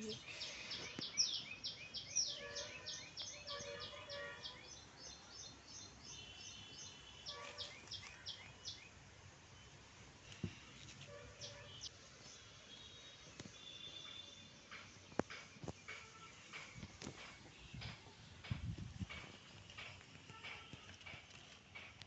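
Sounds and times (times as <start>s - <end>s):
small birds chirping: 0.0s - 9.0s, 9.6s - 22.0s.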